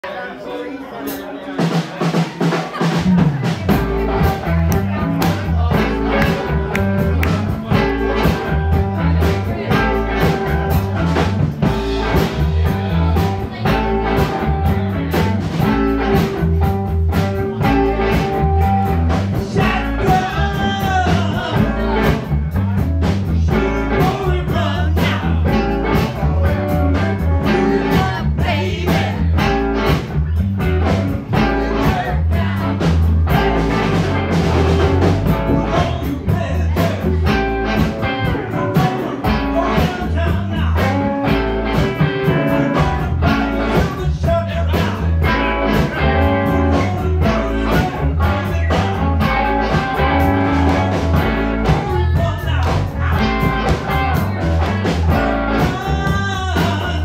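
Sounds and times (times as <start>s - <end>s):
blues band playing: 0.1s - 57.0s.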